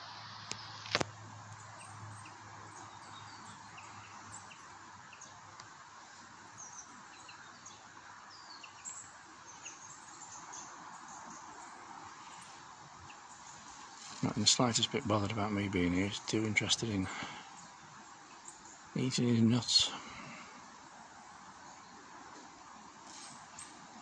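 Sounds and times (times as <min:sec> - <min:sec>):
steady hiss: 0:00.0 - 0:24.0
small birds chirping: 0:00.3 - 0:24.0.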